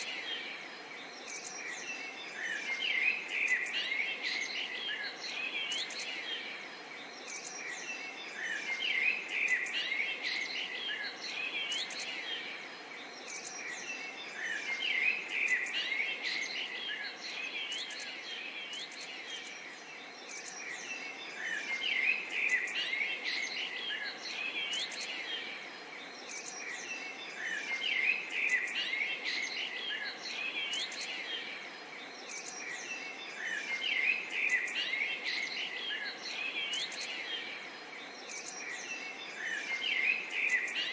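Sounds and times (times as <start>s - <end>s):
faint steady hiss: 0.0s - 40.9s
songbirds chirping: 0.0s - 40.9s.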